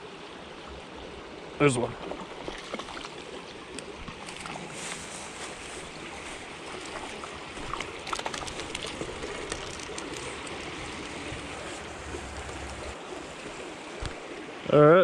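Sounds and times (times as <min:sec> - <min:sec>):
river water rushing: 0:00.1 - 0:15.0.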